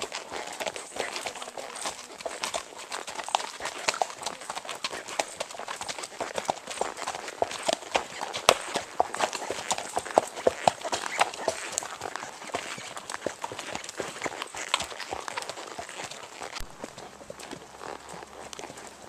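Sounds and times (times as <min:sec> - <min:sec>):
horses' hooves on dirt and stone: 0:00.0 - 0:19.0.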